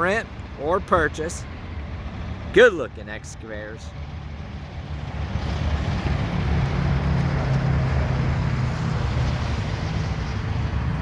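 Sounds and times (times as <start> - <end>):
broad rushing noise: 0.0 - 11.0
engine humming: 0.0 - 11.0.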